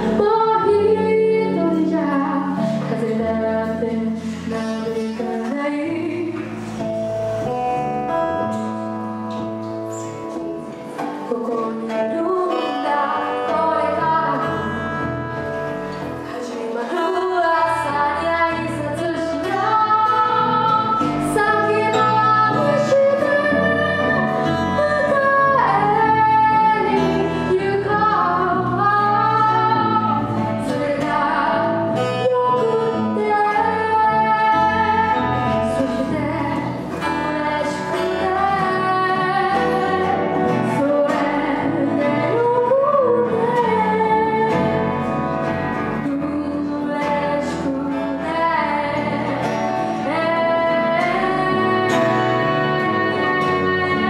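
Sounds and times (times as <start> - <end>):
woman singing: 0.0 - 6.9, 9.7 - 54.0
acoustic guitar: 0.0 - 54.0
bass: 0.0 - 54.0.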